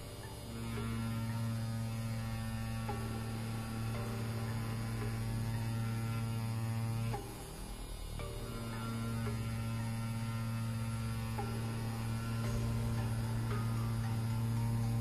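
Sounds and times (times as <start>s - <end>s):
tattoo pen humming: 0.0s - 15.0s.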